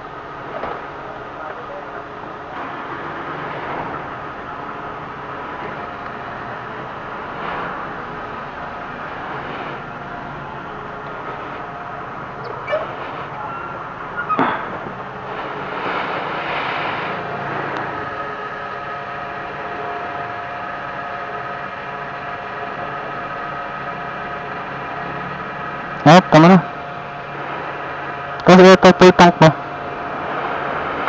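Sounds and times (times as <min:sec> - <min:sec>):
fuel pump humming: 0:00.0 - 0:31.0.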